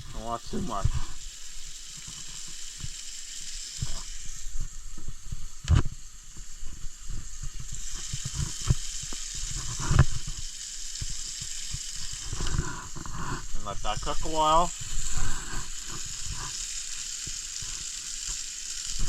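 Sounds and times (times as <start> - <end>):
patty sizzling in a pan: 0.0 - 19.0.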